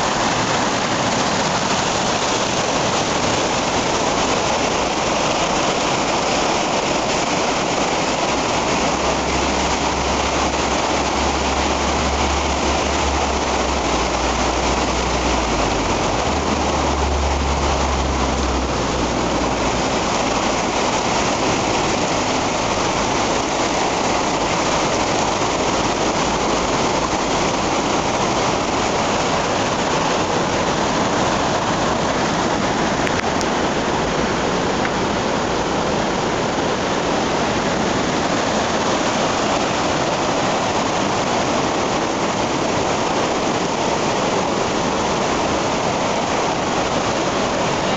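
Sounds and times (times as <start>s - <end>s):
flood water rushing: 0.0s - 47.9s.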